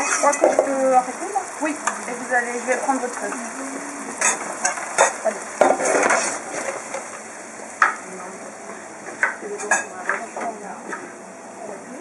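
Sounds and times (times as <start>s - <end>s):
fruit sizzling in syrup: 0.0s - 12.0s.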